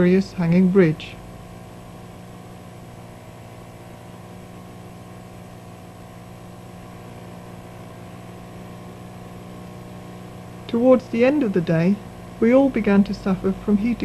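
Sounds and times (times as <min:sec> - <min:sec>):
outboard motor droning: 0:00.0 - 0:14.0.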